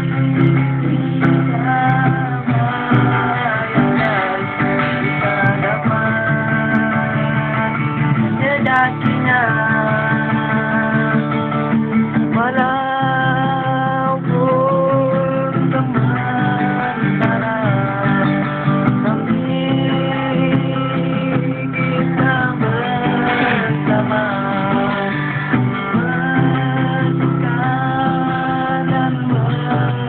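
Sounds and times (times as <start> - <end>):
acoustic guitar strummed chords: 0.0 - 30.0
man singing: 0.0 - 30.0.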